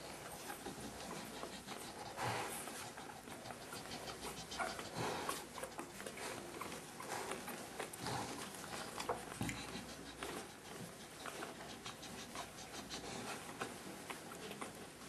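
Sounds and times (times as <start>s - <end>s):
rustling bedding and fur: 0.0s - 15.0s
puppies squeaking and whimpering: 0.1s - 14.8s.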